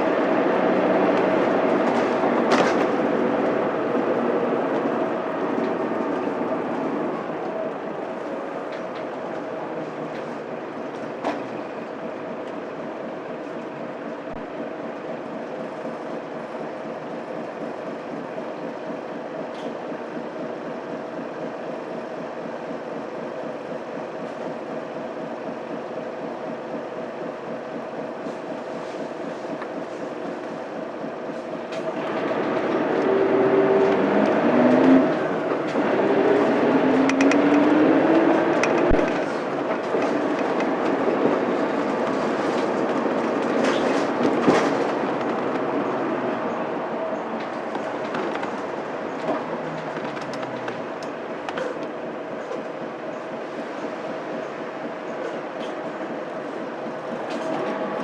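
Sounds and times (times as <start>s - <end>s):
bus diesel engine accelerating: 0.0s - 58.0s.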